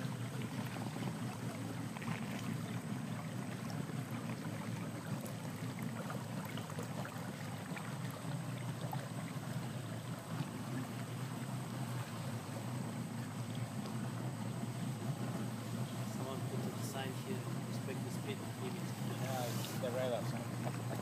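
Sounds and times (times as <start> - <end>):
boat motor rumbling: 0.0 - 21.0.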